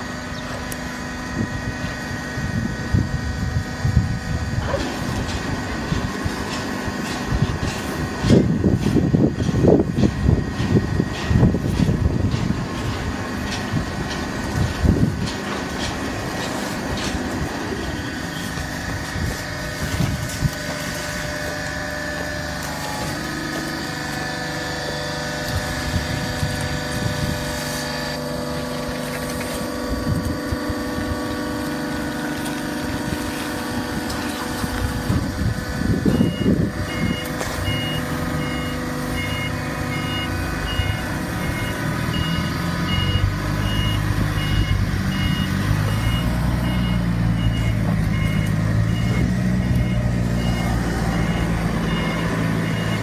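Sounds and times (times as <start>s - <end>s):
baler motor humming: 0.0s - 53.0s.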